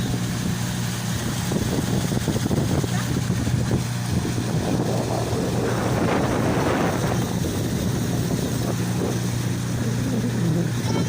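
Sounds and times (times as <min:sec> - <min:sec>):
boat motor running: 0:00.0 - 0:11.0
water rushing: 0:00.0 - 0:11.0
wind buffeting microphone: 0:00.0 - 0:11.0.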